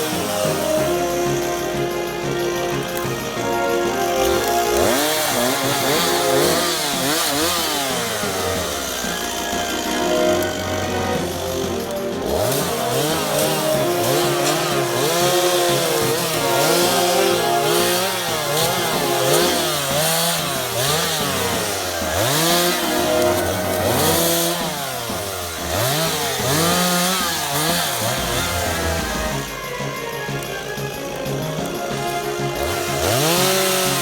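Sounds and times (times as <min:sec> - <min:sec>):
chainsaw revving: 0:00.0 - 0:34.0.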